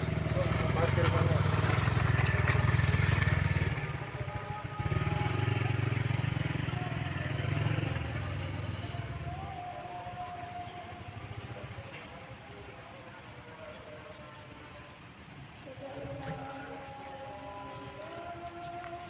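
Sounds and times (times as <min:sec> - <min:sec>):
small engine rumbling: 0:00.0 - 0:19.0.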